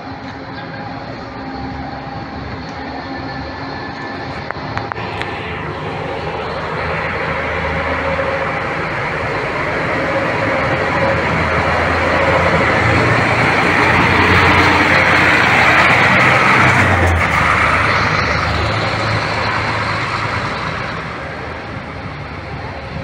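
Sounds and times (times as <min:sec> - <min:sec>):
coach diesel engine drone: 0:00.0 - 0:23.0.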